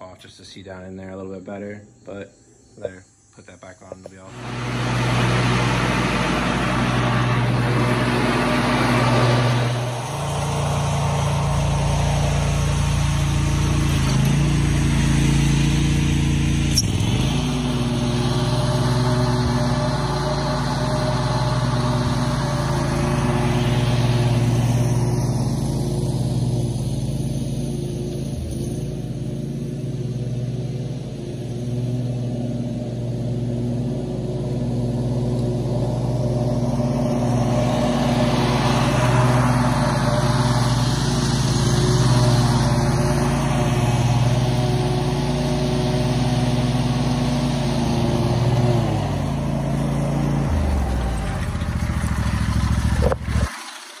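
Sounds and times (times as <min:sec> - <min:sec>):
lawn mower engine running: 0:04.1 - 0:54.0.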